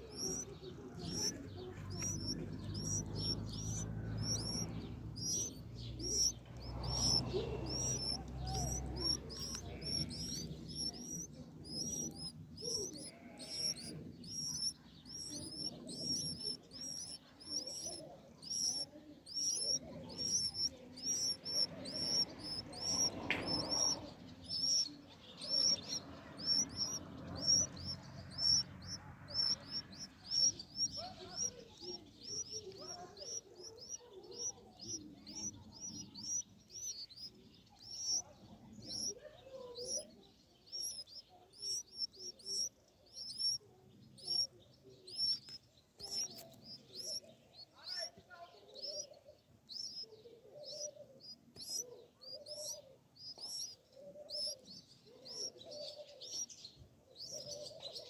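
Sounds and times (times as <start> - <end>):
nestlings chirping: 0.0 - 58.0.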